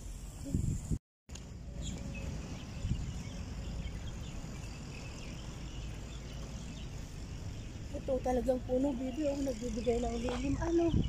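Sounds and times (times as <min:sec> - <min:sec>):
small birds chirping: 0:00.0 - 0:11.0
wind rumble on microphone: 0:00.0 - 0:11.0.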